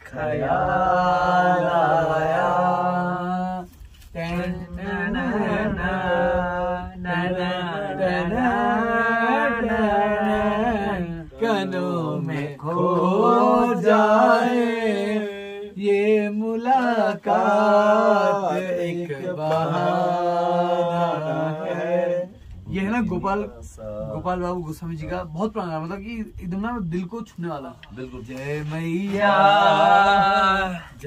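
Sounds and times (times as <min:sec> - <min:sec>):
man singing unaccompanied: 0:00.0 - 0:26.5, 0:28.0 - 0:31.0.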